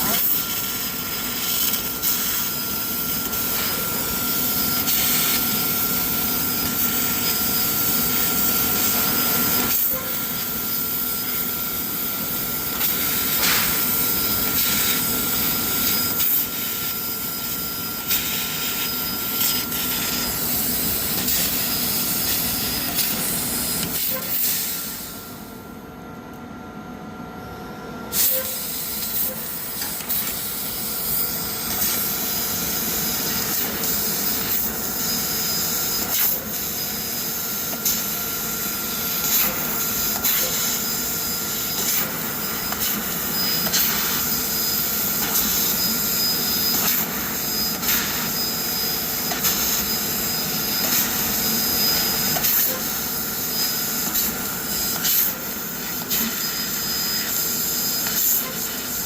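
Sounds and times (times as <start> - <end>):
laser cutter hissing: 0.0 - 25.5, 28.1 - 59.0.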